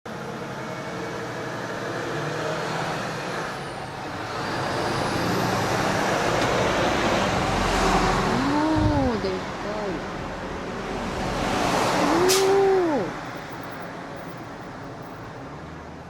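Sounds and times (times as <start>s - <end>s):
cars and trucks passing at speed: 0.1s - 16.0s.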